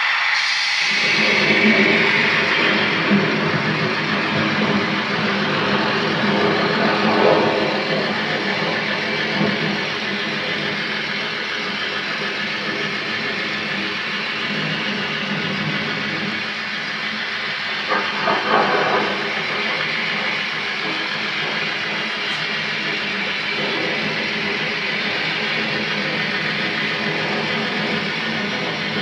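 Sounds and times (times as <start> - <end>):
model train whirring on track: 0.0 - 29.0
loud rattles: 0.8 - 29.0
wheel clatter: 1.0 - 29.0.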